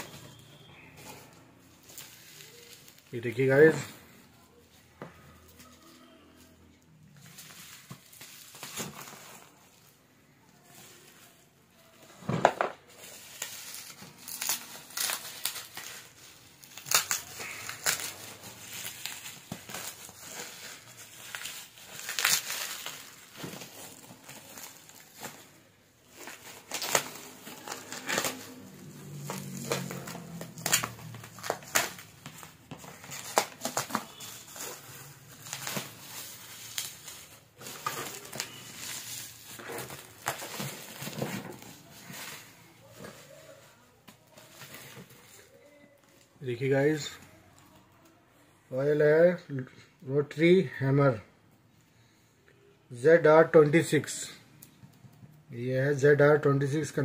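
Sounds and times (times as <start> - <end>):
bubble wrap crackling: 0.0 - 48.2.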